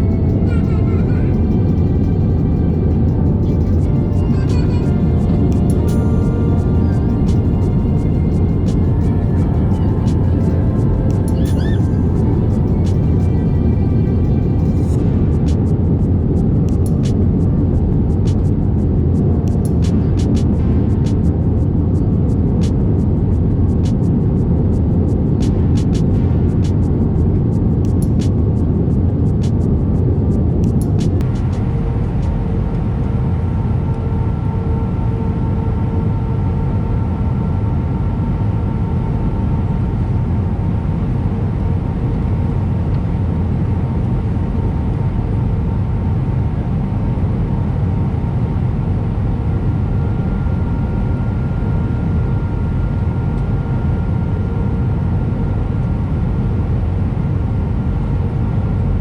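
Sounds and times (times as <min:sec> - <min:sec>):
engine and airflow rumble: 0:00.0 - 0:59.0.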